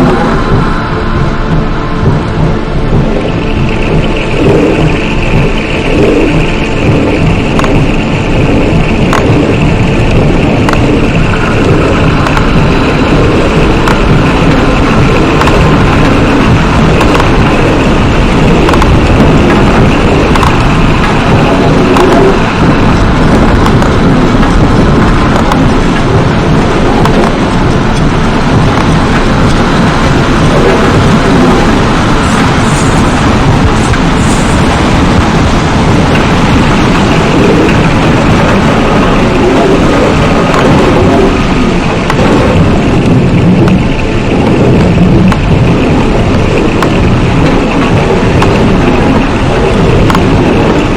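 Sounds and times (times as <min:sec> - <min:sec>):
dense low electronic noise: 0:00.0 - 0:50.9.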